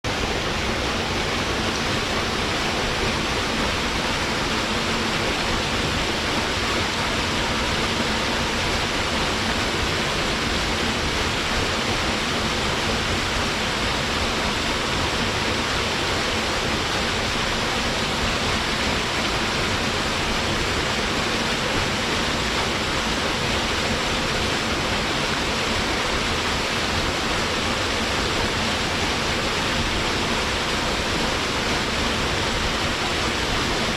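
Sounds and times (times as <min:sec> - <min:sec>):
waterfall pouring: 0:00.1 - 0:33.9.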